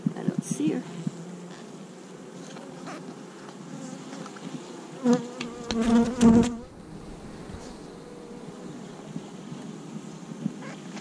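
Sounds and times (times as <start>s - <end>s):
bees buzzing: 0.4s - 11.0s.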